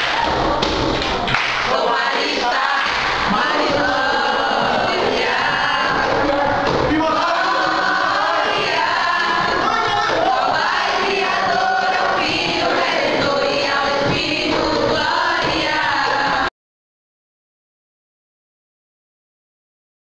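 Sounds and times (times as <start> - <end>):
group of voices singing: 0.0 - 16.5.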